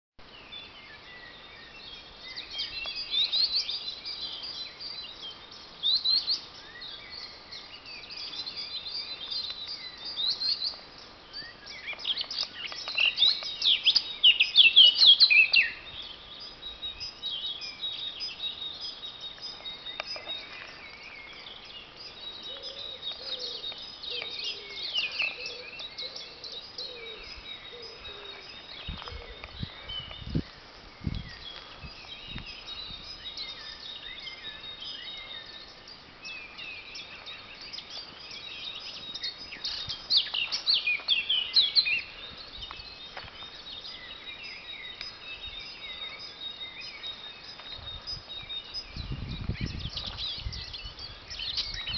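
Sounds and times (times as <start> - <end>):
songbirds chirping and trilling: 0.2 - 51.9.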